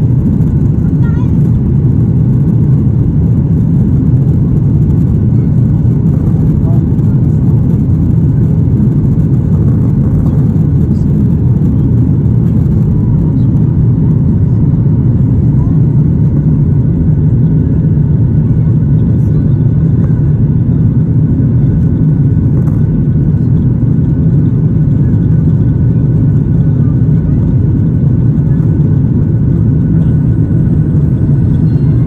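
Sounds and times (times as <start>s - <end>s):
jet engine rumble in cabin: 0.0s - 32.0s.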